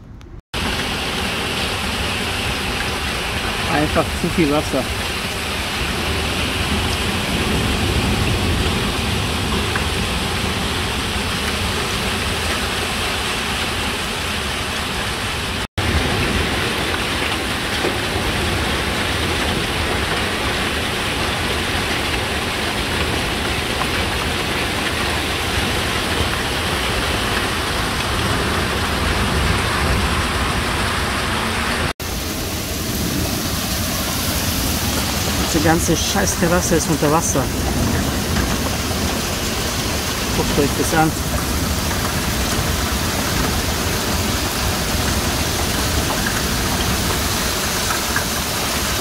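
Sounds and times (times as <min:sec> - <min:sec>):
heavy rain pouring: 0:00.6 - 0:49.0.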